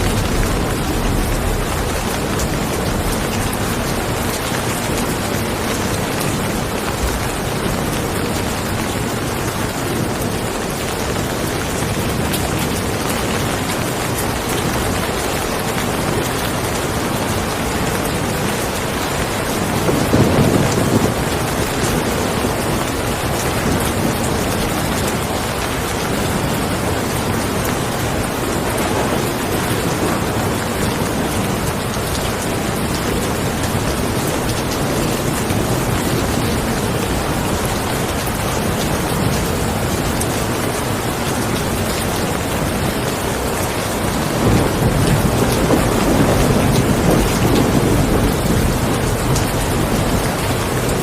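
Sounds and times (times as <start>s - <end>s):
heavy rain falling: 0.0s - 51.0s
low rumble of thunder: 0.0s - 51.0s.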